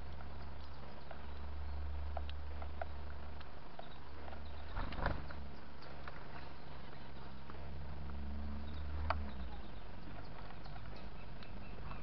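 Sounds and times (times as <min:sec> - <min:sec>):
birds pecking on wooden tray: 0:00.0 - 0:12.0
low steady hum: 0:00.0 - 0:12.0.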